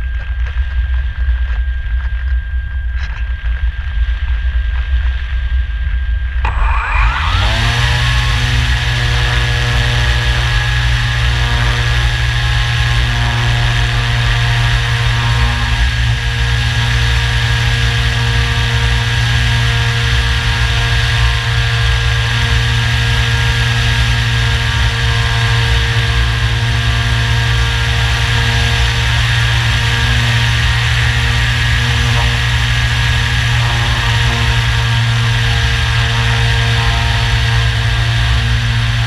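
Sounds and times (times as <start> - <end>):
low rumble of wind: 0.0 - 39.0
electric motor whine: 6.2 - 39.0.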